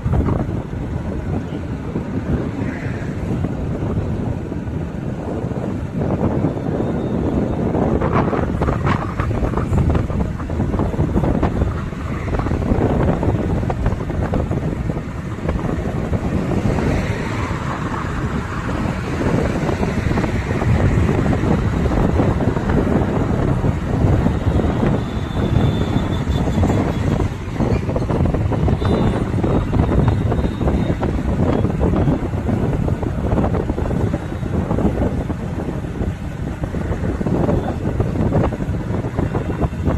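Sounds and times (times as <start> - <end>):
vehicle rumble: 0.0 - 39.9
wind buffeting microphone: 0.0 - 39.9.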